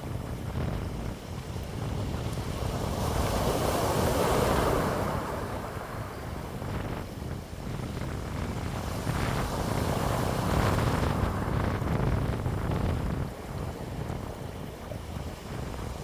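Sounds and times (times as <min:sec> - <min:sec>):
wind blowing: 0:00.0 - 0:16.0
wind buffeting microphone: 0:00.0 - 0:16.0.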